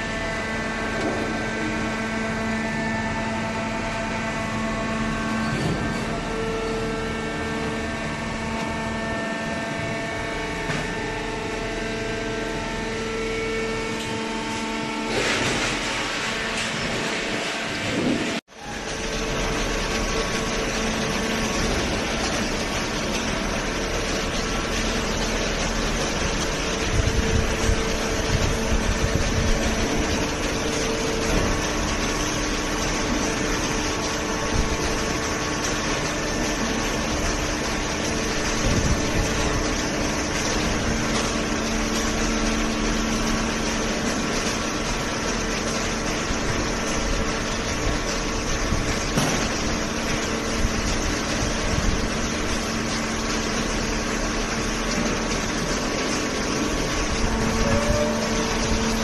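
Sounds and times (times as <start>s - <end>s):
baler machine humming: 0.0s - 59.0s.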